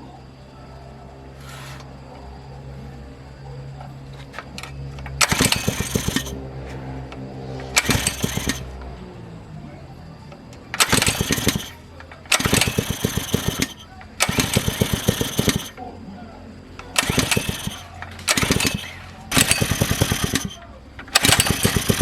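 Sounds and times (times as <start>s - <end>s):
water pump engine revving: 1.3s - 3.3s, 3.9s - 22.0s.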